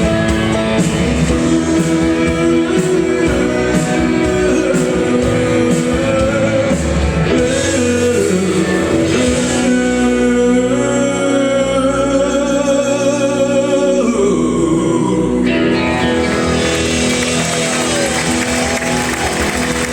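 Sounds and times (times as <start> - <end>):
live rock music: 0.0 - 19.9
person singing: 0.0 - 19.9.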